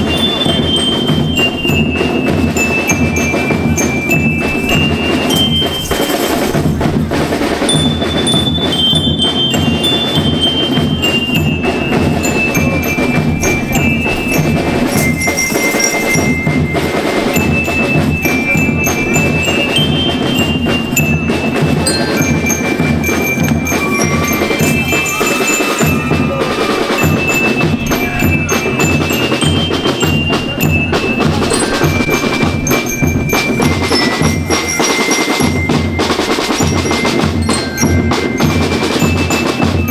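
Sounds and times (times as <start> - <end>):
bell lyre melody: 0.0 - 6.8, 7.6 - 39.9
drums beating: 0.0 - 39.9.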